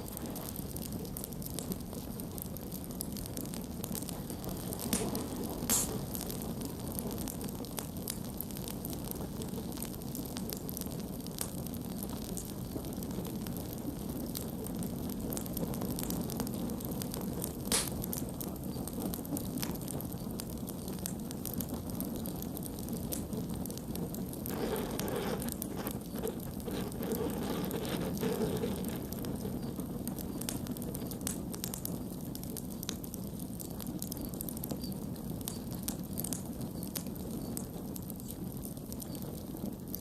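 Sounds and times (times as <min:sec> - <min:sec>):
campfire crackles and pops: 0:00.0 - 0:40.0
low rush of flames: 0:00.0 - 0:40.0.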